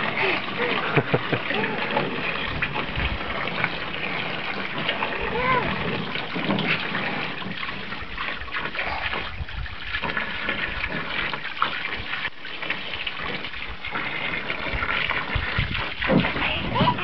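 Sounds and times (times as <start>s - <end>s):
garden hose water spraying: 0.0s - 17.0s
water splashing into pool: 0.0s - 17.0s.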